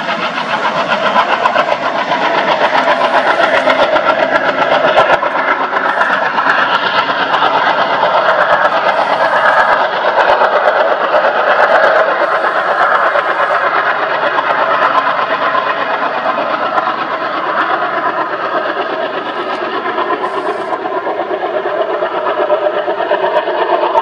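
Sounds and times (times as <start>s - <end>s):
diesel locomotive engines chugging: 0.0s - 24.0s.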